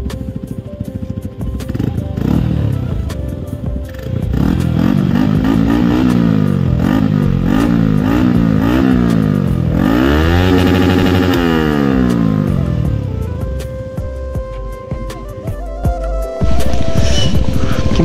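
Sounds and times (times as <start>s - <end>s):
motorcycle engine revving: 0.0s - 14.1s, 16.4s - 18.0s.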